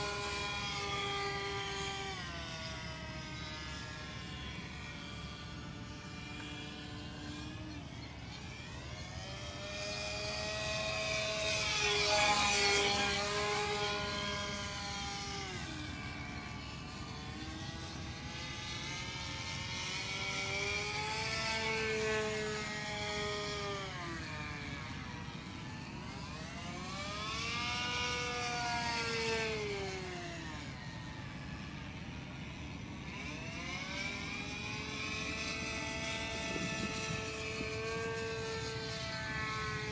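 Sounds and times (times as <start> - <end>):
model airplane engine passing: 0.0 - 39.9.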